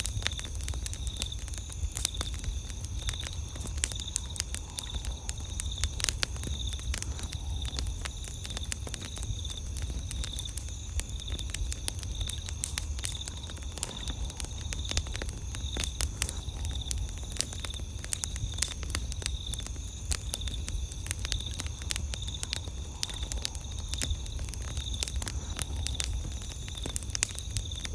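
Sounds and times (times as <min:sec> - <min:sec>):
campfire crackling and popping: 0:00.0 - 0:27.9
night insects chirping: 0:00.0 - 0:27.9.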